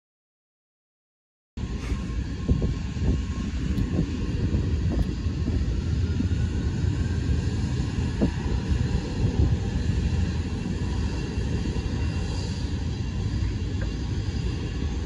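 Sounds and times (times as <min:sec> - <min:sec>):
distant jet engines rumbling: 0:01.6 - 0:15.0
wind buffeting microphone: 0:01.6 - 0:15.0.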